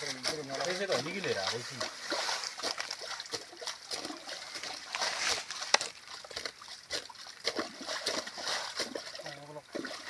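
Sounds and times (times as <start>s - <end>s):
digging tool in wet mud: 0.0s - 10.0s.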